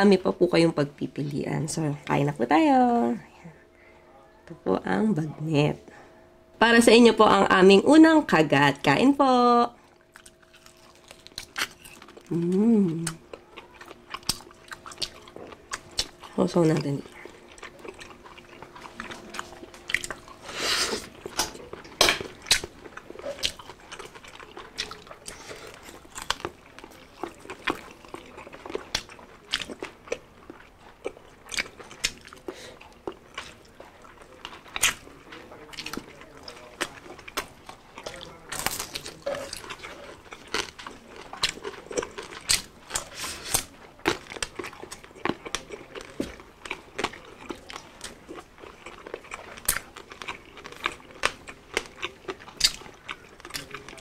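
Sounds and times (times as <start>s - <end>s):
wet chewing: 9.8s - 54.0s
crunching crispy food: 9.9s - 54.0s.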